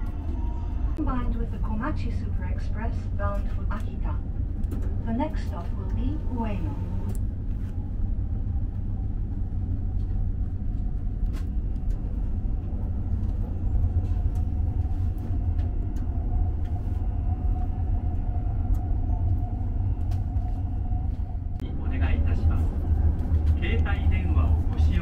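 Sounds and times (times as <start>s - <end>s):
train running heard from cabin: 0.0s - 25.0s.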